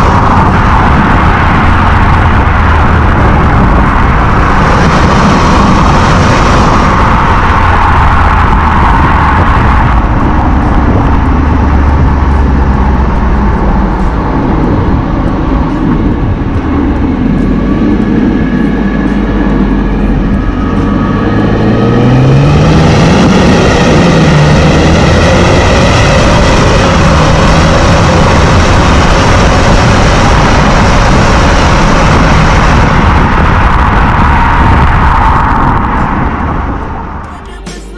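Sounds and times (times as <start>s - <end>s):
diesel exhaust drone: 0.0s - 37.9s.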